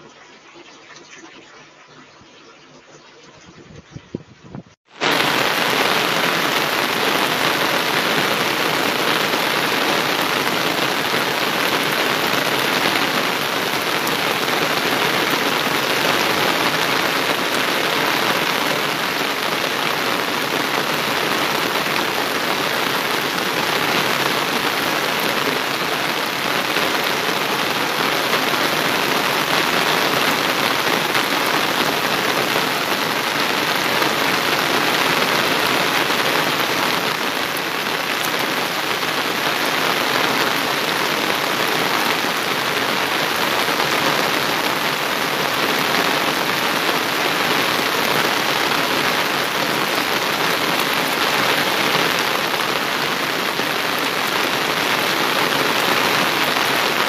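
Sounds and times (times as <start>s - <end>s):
heavy rain hissing: 4.9s - 57.0s.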